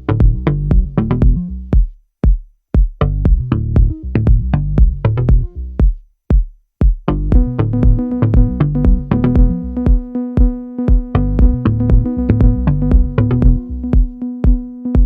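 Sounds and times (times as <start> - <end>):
electronic music with drum-machine beat: 0.0 - 2.0, 2.8 - 6.0, 6.8 - 15.0.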